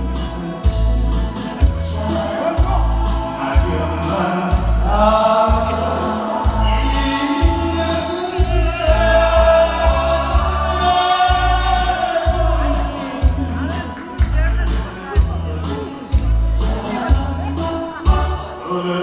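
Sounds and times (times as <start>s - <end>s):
man singing into a microphone: 0.0s - 14.2s, 15.6s - 19.0s
amplified backing music with bass beat: 0.0s - 19.0s.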